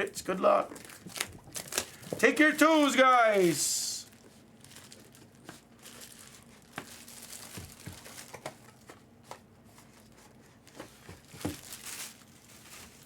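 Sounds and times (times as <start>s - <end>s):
wrapping crinkling and rustling: 0.0s - 13.0s.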